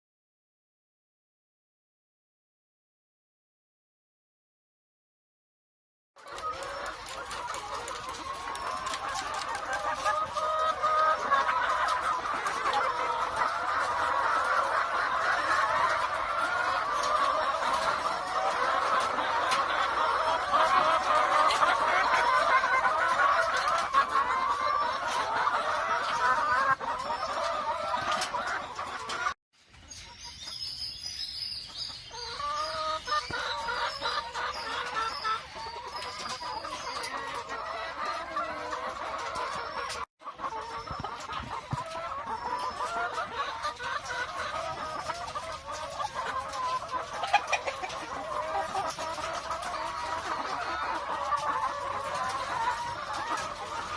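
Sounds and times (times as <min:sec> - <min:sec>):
hens clucking and cackling: 0:06.2 - 0:53.9.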